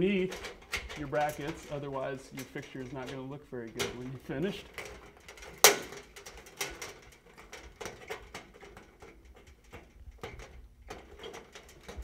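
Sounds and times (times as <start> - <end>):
wiring rustling: 0.0 - 12.0.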